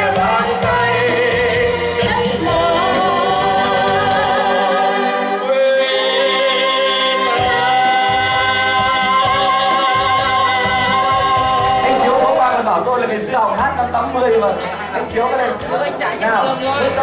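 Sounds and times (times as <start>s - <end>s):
singing with musical accompaniment: 0.0s - 17.0s.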